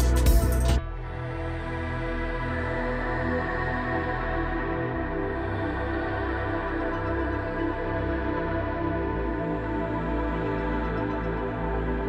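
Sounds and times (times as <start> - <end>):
calm ambient synth music: 0.0 - 12.0.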